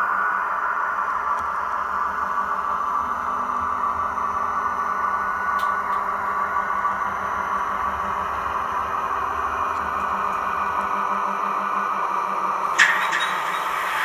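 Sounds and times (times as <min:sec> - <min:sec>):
model train whirring hum: 0:00.0 - 0:14.0.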